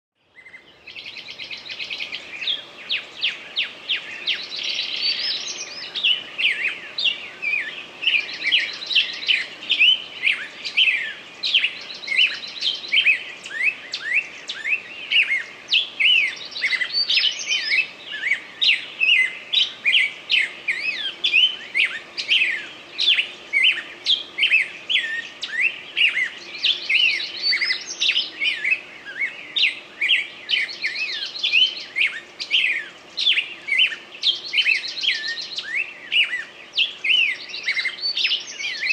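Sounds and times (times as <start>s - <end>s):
songbirds chirping and trilling: 0.2s - 38.9s.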